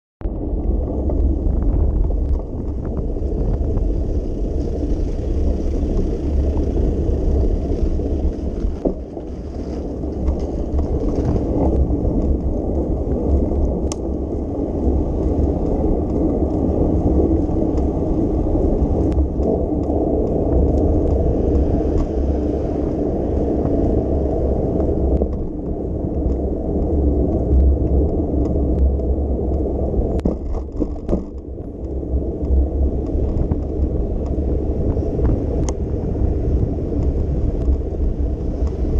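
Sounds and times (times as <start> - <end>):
bicycle tyres rolling on pavement: 0.2 - 38.9
wind rumble on microphone: 0.2 - 38.9.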